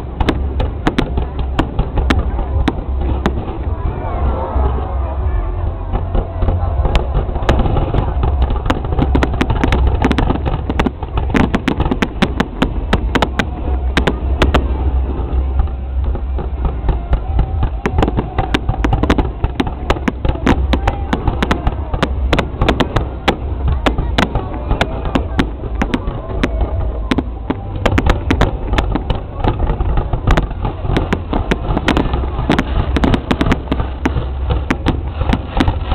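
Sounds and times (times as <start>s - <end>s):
crowd chatter: 0.0s - 35.9s
fireworks popping and banging: 0.0s - 35.9s
low rumble: 0.0s - 35.9s.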